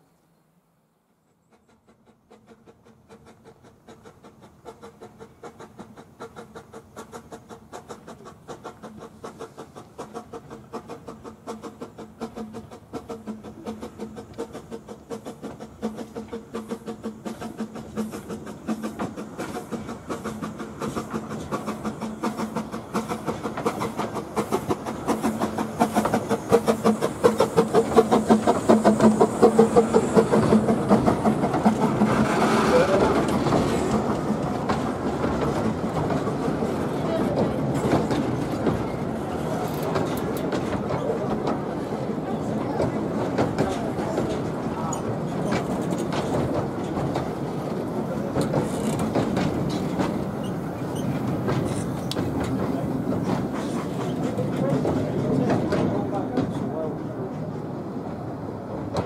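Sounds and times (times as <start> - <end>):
steam train passing: 0.0 - 59.0
rhythmic clatter of train: 0.7 - 59.0.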